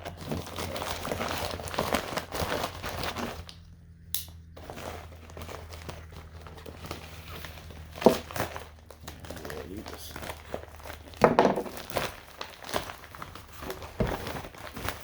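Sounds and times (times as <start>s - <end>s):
plastic packaging crinkling: 0.0s - 3.7s, 4.6s - 15.0s.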